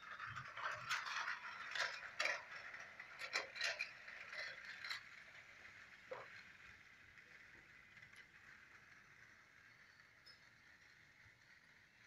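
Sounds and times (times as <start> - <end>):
toy train motor whine: 0.0 - 12.0.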